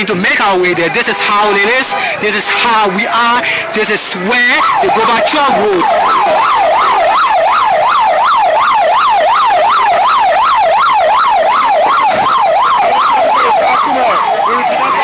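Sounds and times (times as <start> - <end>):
police siren yelping: 0.0 - 15.0.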